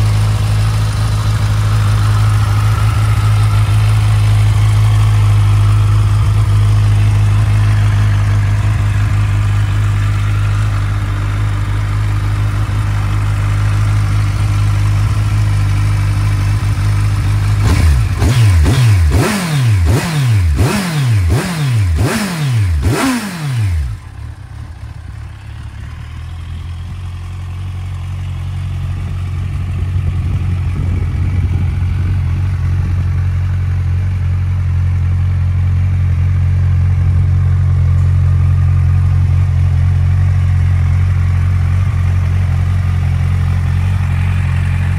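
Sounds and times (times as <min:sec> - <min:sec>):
motorcycle engine idling: 0:00.0 - 0:44.9
motorcycle throttle blips: 0:00.0 - 0:44.9.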